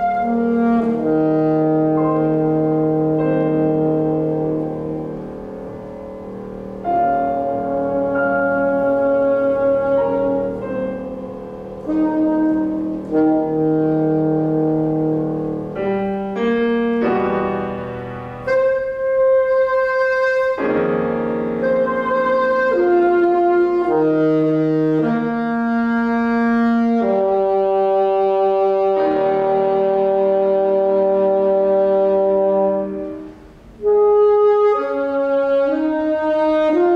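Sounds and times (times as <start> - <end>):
piano chords: 0.0 - 36.9
saxophone sustained notes: 0.0 - 36.9.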